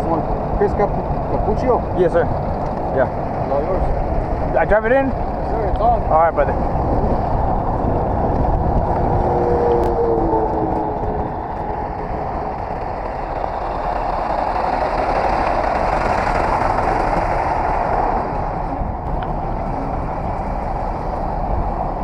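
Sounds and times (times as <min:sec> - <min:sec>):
heavy vehicle rumbling: 0:00.0 - 0:22.0.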